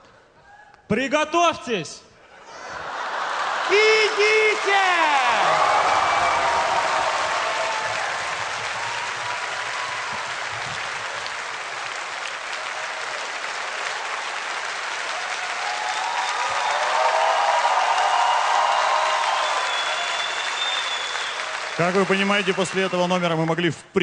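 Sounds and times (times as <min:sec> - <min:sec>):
studio audience applauding: 0:02.8 - 0:23.6.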